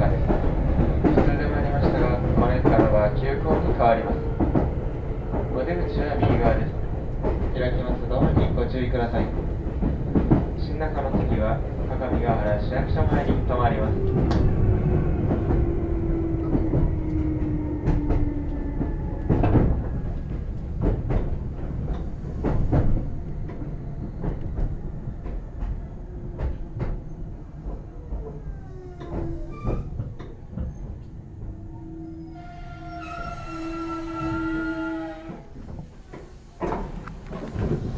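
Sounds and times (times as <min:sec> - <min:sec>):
train rumble: 0:00.0 - 0:37.9.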